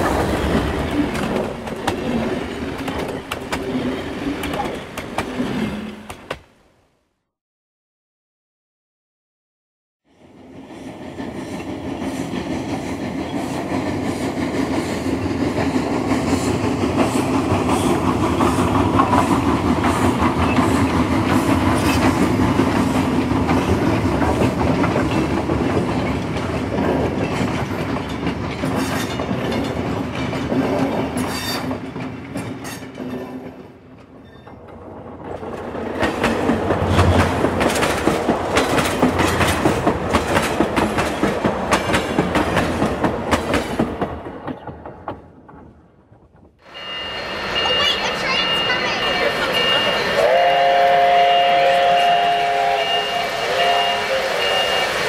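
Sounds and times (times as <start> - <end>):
wheels clacking over rail joints: 0.0 - 6.5, 11.0 - 50.2
train rumbling on rails: 0.0 - 6.8, 10.1 - 55.0.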